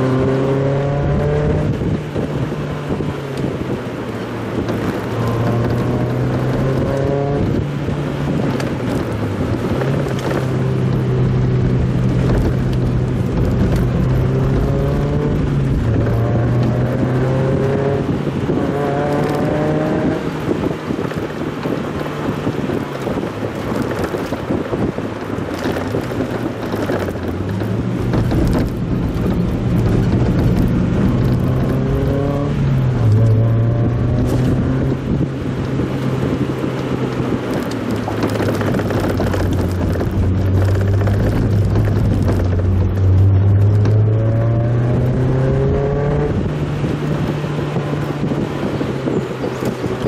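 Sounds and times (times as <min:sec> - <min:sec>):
car engine running: 0:00.0 - 0:50.0
road noise: 0:00.0 - 0:50.0
wind noise: 0:00.0 - 0:50.0.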